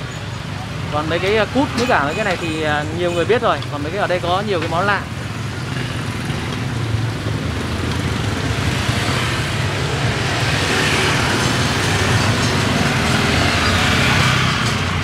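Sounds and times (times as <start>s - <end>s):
vehicle engines passing: 0.0s - 15.0s.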